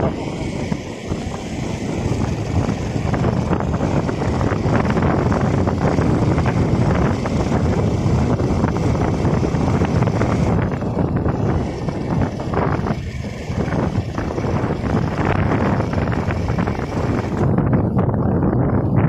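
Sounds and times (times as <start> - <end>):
road and vehicle noise: 0.0 - 19.0
wind buffeting microphone: 0.0 - 19.0.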